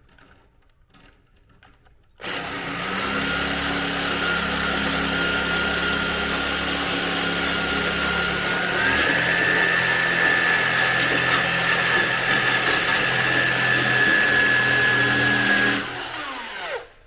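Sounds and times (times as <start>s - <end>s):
electric drill whining: 2.2s - 17.0s.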